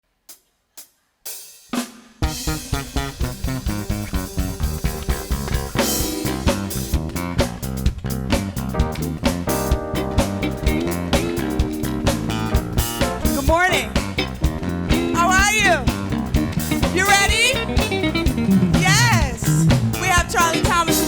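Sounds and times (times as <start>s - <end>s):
live band instrumental groove: 1.4s - 21.0s
drum hits: 1.8s - 15.1s, 16.0s - 21.0s.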